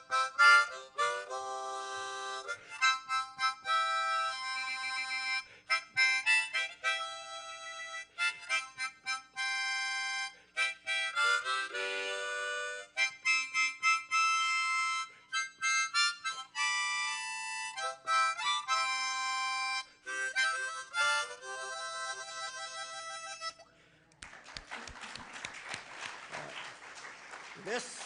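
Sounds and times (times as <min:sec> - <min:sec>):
harmonica playing a tune: 0:00.0 - 0:23.8.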